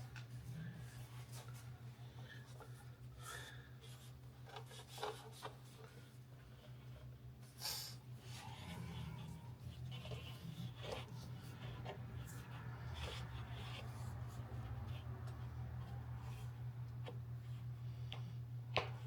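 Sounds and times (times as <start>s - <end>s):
faint rubbing and handling noises: 0.0s - 19.0s
steady low hum: 0.0s - 19.0s.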